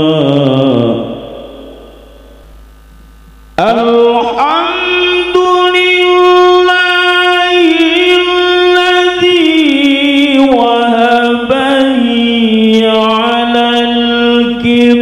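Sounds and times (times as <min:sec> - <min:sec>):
man reciting melodically into microphone: 0:00.0 - 0:02.2, 0:03.6 - 0:15.0.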